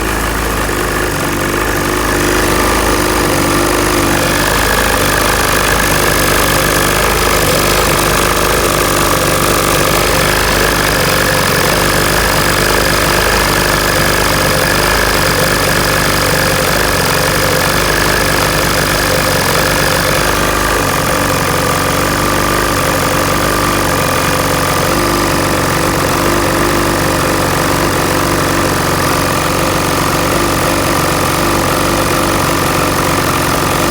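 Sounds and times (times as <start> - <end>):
two-stroke engine idling: 0.0 - 33.9.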